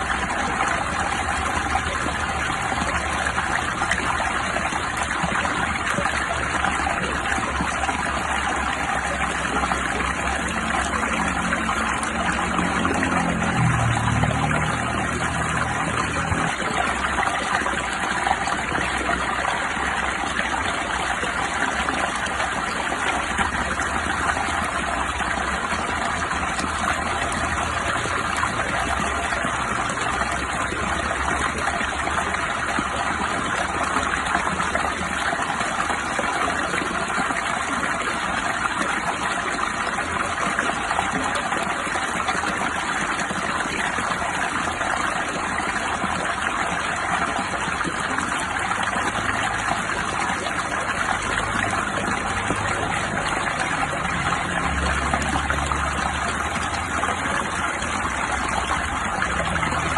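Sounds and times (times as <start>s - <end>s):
water rushing: 0.0s - 59.9s.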